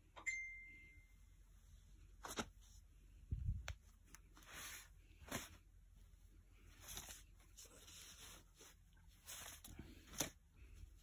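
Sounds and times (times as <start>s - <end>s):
soft rustle: 1.5s - 11.0s.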